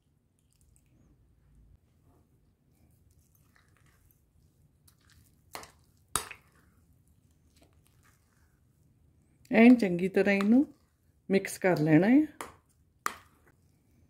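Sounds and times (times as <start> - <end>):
hand squelching wet batter: 0.0 - 14.0.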